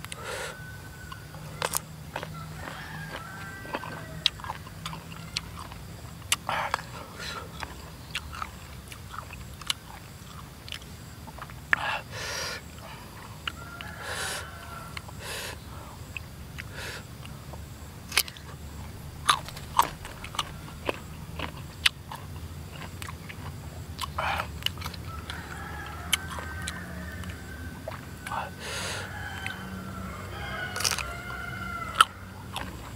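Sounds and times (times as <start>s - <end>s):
chewing crisp mango slices: 0.0s - 29.7s, 30.4s - 32.9s.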